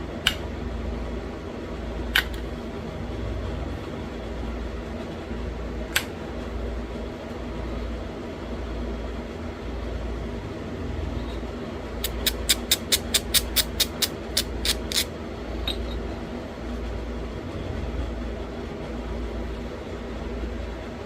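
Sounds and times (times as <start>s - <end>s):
steady fan hum: 0.0s - 21.0s.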